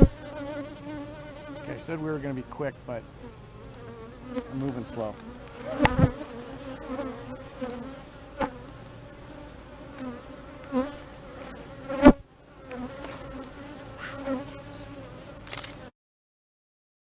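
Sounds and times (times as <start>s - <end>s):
honey bees buzzing: 0.0s - 15.9s.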